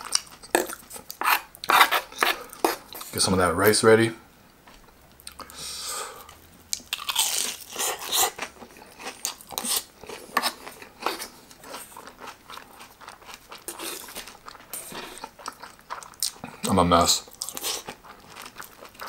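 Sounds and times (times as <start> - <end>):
crunching and chewing fried food: 0.0 - 3.1, 6.2 - 19.0.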